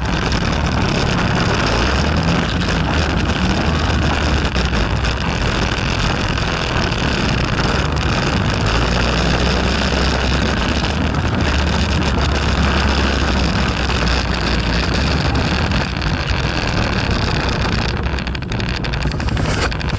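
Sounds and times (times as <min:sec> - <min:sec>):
quad bike engine running: 0:00.0 - 0:19.9
wind buffeting microphone: 0:00.0 - 0:19.9.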